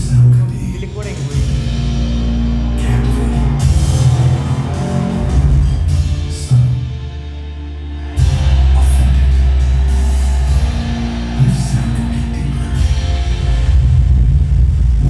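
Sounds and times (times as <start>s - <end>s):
music with heavy deep bass: 0.0s - 15.0s.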